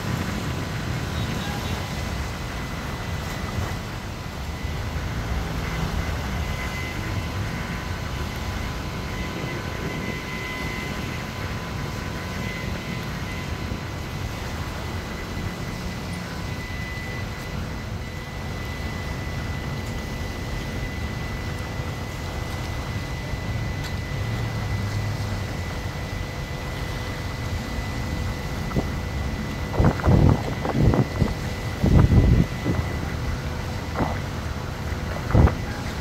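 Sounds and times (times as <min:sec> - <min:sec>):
boat engines rumbling: 0:00.0 - 0:36.0
faint high whine: 0:00.0 - 0:36.0.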